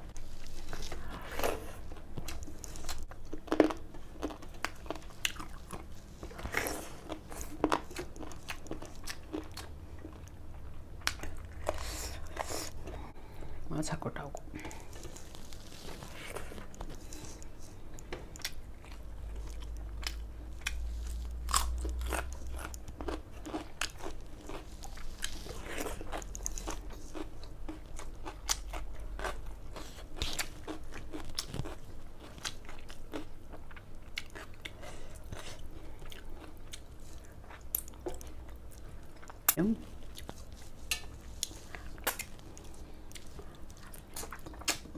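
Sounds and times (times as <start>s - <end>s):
crunchy food being chewed: 0.0s - 13.1s, 14.6s - 44.9s.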